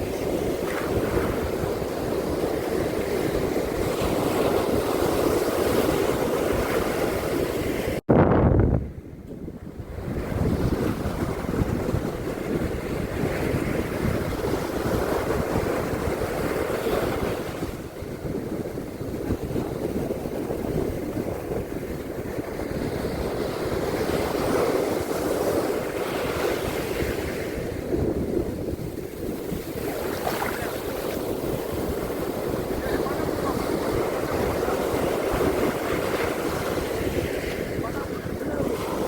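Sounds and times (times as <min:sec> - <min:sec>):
surf breaking on a beach: 0:00.0 - 0:08.0, 0:08.8 - 0:39.0
wind on microphone: 0:00.0 - 0:39.0.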